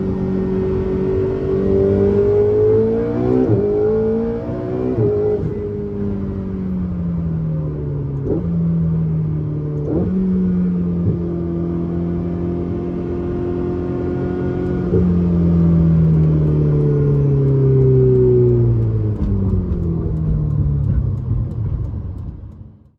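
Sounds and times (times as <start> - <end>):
car engine running: 0.0 - 22.9
gear changes: 0.0 - 22.9.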